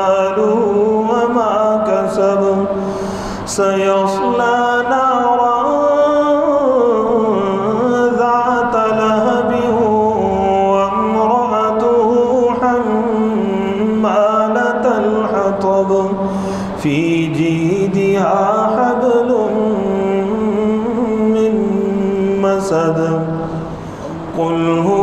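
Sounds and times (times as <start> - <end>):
man reciting melodically: 0.0 - 25.0.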